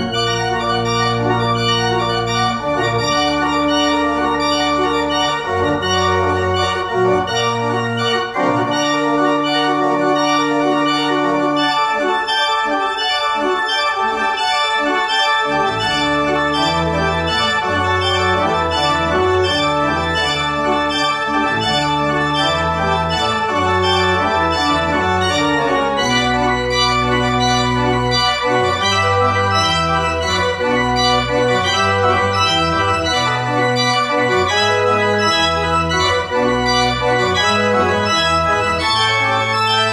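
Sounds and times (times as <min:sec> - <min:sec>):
organ bass line: 0:00.0 - 0:39.9
organ chords: 0:00.0 - 0:39.9.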